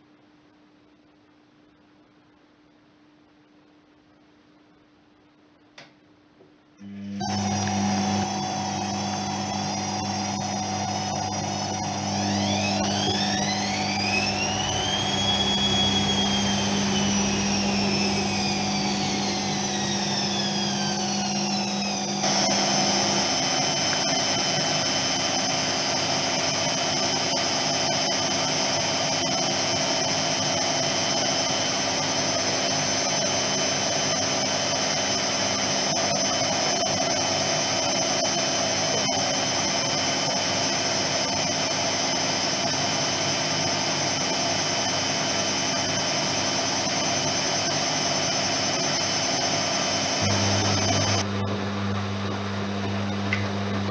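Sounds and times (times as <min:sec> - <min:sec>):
washing machine motor whining: 0:06.8 - 0:53.9.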